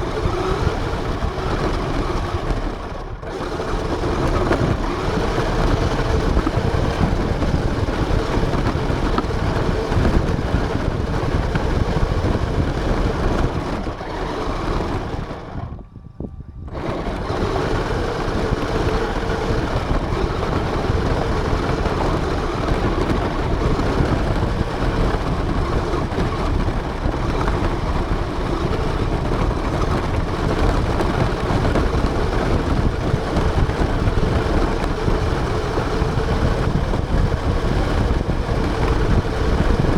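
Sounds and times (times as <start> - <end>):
rc car motor and tyre noise: 0.0 - 15.9, 16.6 - 39.9.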